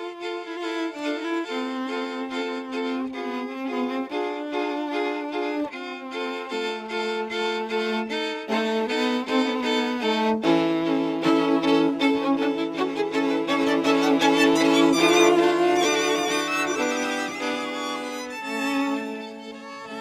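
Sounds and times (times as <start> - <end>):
string quartet playing: 0.0 - 20.0.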